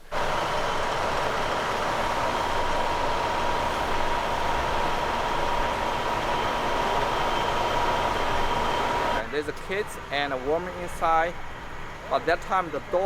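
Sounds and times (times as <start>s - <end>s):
machine humming with high whine: 0.0s - 12.0s.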